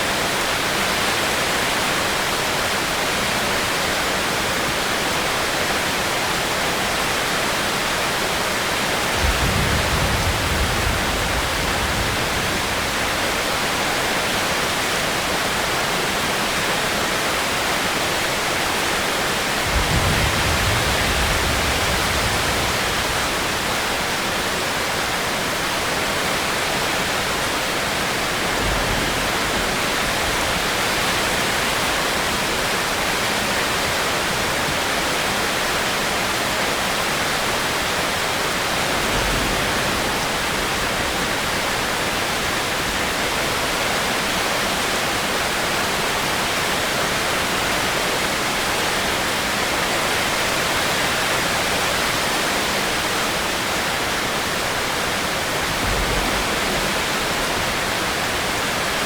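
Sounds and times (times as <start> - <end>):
heavy rain hissing: 6.9 - 59.0.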